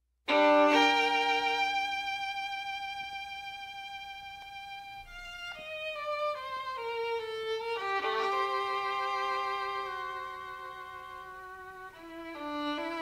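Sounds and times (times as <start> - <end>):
violin music: 0.3 - 13.0.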